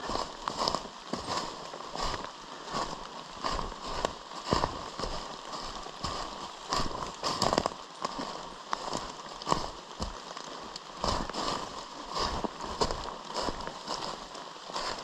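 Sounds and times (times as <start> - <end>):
footsteps on forest floor: 0.0 - 15.0.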